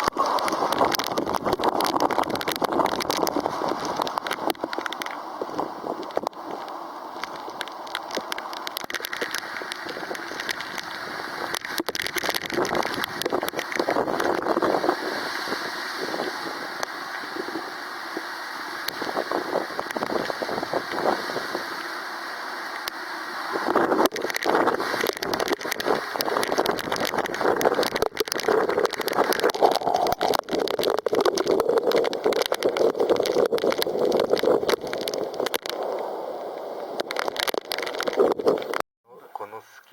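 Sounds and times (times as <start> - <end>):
raindrops ticking close by: 0.0 - 14.9, 16.7 - 38.8
rain and wind rushing: 0.0 - 38.8.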